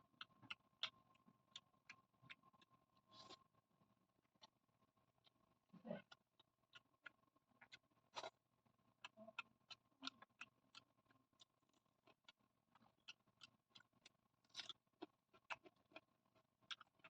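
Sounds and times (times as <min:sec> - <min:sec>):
faint steady hum: 0:00.0 - 0:17.0
chewing sounds: 0:00.2 - 0:03.5, 0:06.0 - 0:08.4, 0:09.0 - 0:17.0.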